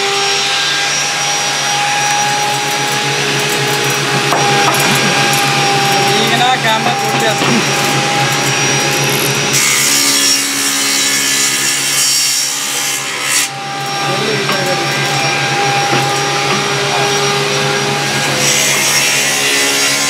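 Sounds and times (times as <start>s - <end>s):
electric saw motor hum: 0.0s - 20.0s
saw cutting a board: 0.0s - 20.0s.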